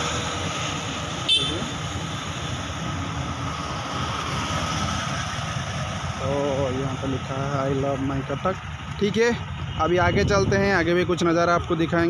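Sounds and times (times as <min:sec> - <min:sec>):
scooters and motorcycles passing: 0:00.0 - 0:09.9.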